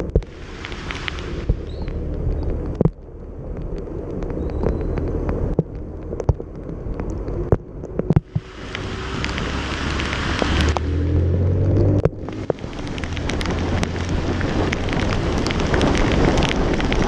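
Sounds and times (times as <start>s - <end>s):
motorcycle engine and wind rumble: 0.0s - 17.0s
sharp pops and clicks: 0.0s - 17.0s.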